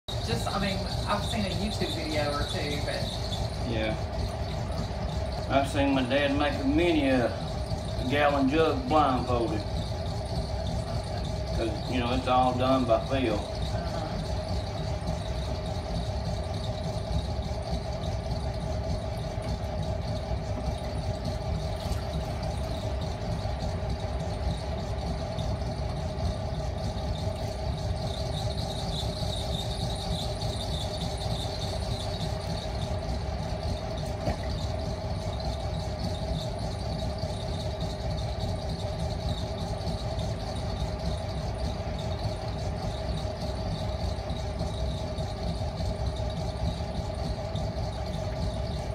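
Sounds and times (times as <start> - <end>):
potter's wheel rumbling and squealing: 0.1 - 48.9.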